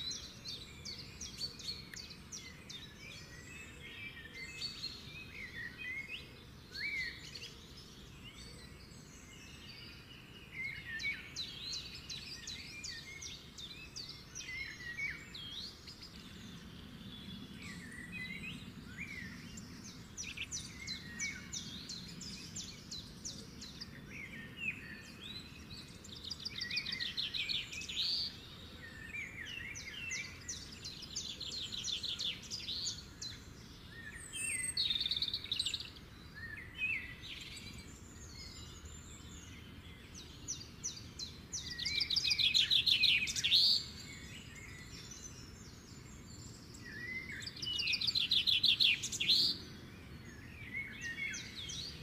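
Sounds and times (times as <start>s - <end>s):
low background noise: 0.0s - 52.0s
small birds chirping and trilling: 0.0s - 52.0s.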